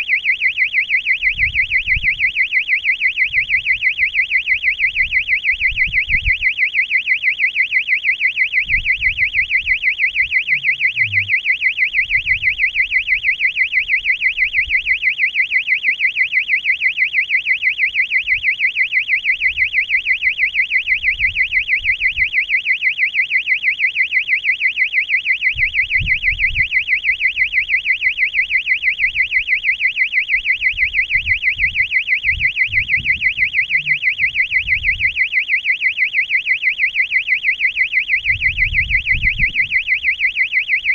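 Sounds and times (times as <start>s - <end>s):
electronic buzzer beeping: 0.0s - 23.5s, 24.7s - 40.9s.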